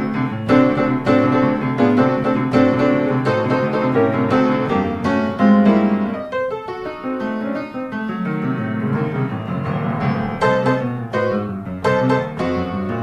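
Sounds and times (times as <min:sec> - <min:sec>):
piano music with repeated notes: 0:00.0 - 0:13.0.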